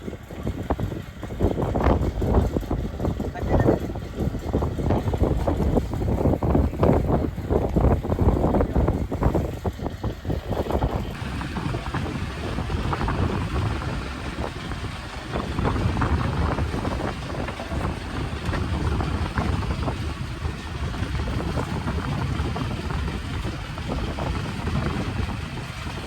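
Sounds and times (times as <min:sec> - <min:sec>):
boat engine rumbling: 0:00.0 - 0:26.0
wind buffeting microphone: 0:00.0 - 0:26.0.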